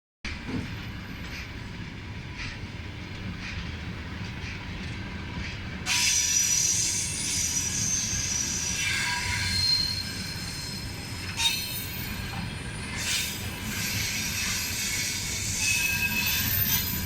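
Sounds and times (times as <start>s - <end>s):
wheels squealing on rails: 0.3s - 2.7s, 3.4s - 17.0s.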